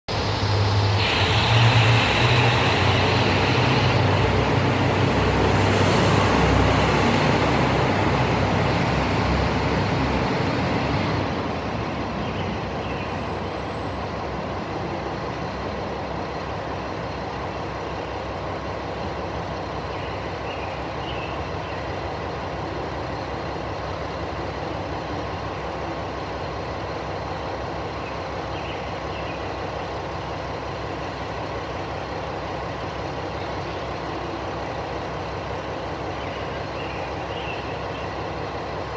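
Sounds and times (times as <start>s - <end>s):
diesel railcar engine drone: 0.0s - 38.9s.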